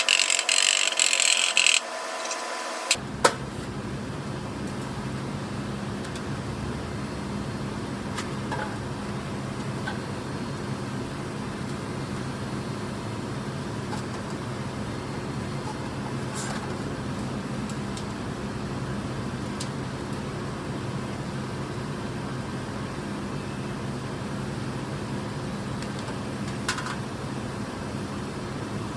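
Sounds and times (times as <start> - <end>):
mechanical hum: 0.0 - 28.9.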